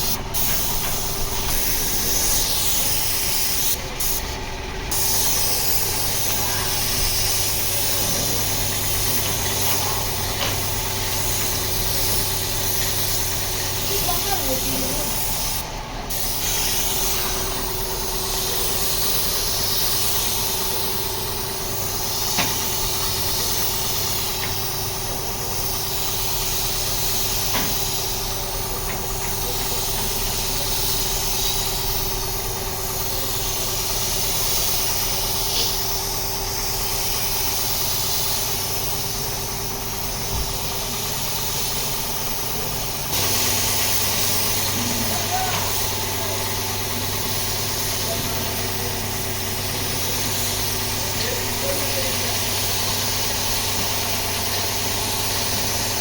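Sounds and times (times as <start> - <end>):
hiss: 0.0 - 56.0
motor running: 0.0 - 56.0.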